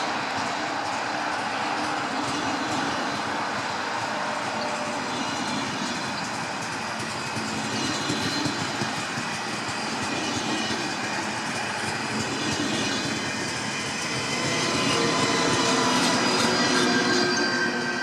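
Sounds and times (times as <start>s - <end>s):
train rumbling on rails: 0.0s - 18.0s
wheel squeal: 0.2s - 18.0s.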